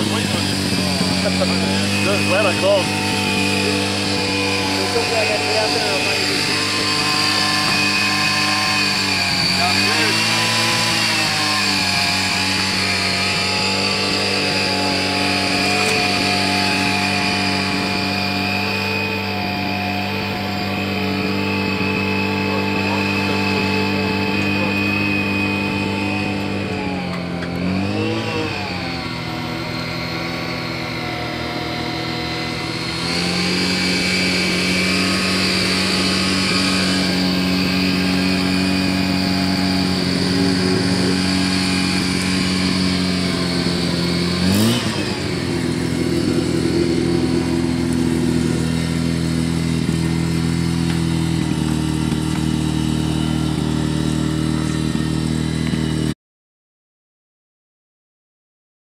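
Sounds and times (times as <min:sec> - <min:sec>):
rotary engine idling and revving: 0:00.0 - 0:56.2.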